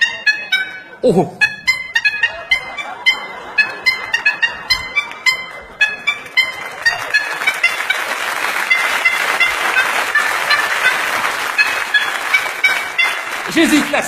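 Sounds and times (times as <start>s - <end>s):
car horns honking notes: 0.0s - 14.0s.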